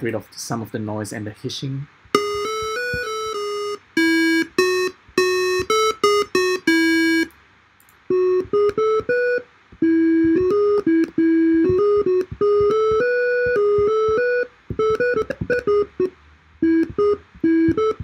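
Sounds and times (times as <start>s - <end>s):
beeping synthesizer melody: 2.1s - 7.3s, 8.1s - 18.0s.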